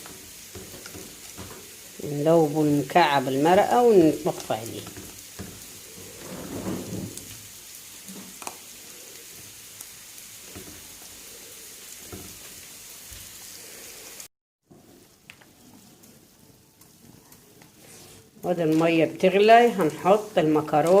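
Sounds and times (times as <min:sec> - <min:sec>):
sauce sizzling and bubbling: 0:00.0 - 0:21.0
stirring in a pan: 0:00.0 - 0:21.0.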